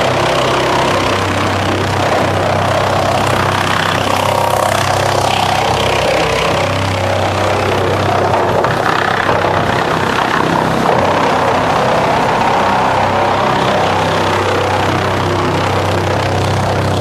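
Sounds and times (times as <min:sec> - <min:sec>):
drum chipper grinding wood: 0:00.0 - 0:17.0.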